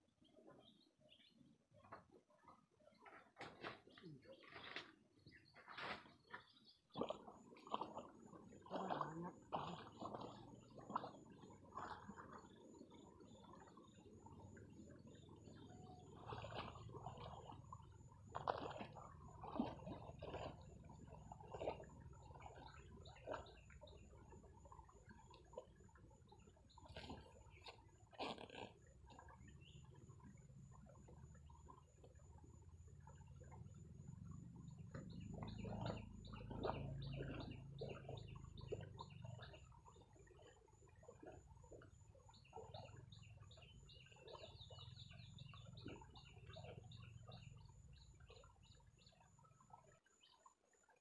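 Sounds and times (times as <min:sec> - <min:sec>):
water splashes: 0:01.9 - 0:51.0
sloshing muddy water: 0:03.0 - 0:48.9.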